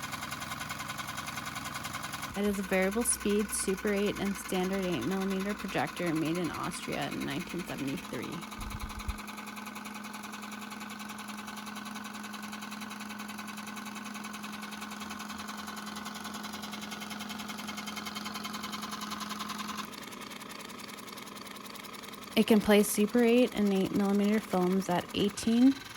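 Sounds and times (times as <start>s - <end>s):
film projector hum: 0.0s - 25.9s.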